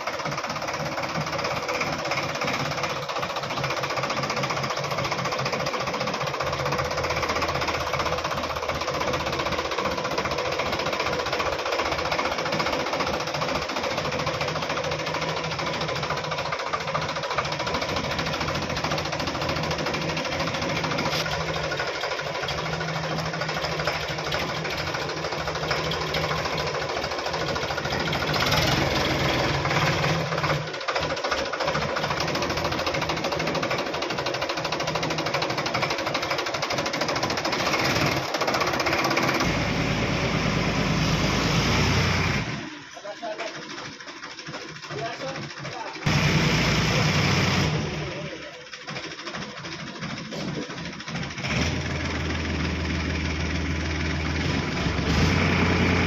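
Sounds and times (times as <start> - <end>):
tractor diesel engine knocking: 0.0 - 56.0.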